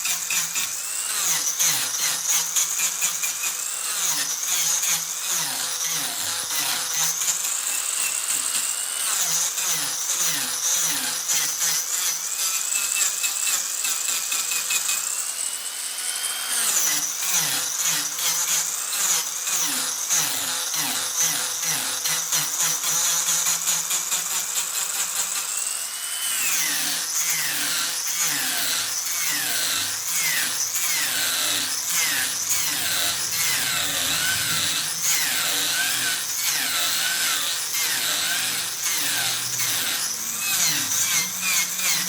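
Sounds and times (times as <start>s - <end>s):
angle grinder cutting wood: 0.0s - 42.0s.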